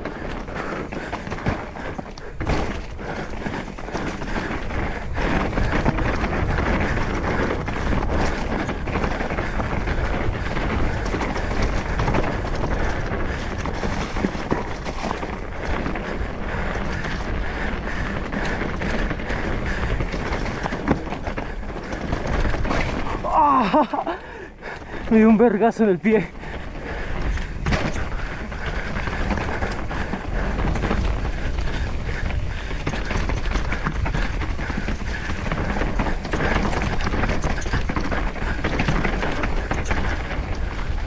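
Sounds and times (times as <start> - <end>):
bike knocking and rattling: 0.0 - 41.0
bike tyres on rocky trail: 0.0 - 41.0.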